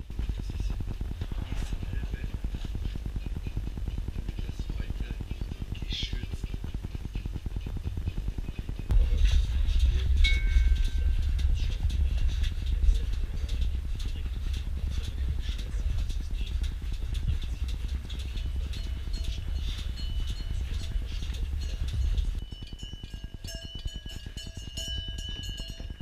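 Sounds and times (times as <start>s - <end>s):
vacuum pump low mechanical rumble: 0.0s - 26.0s.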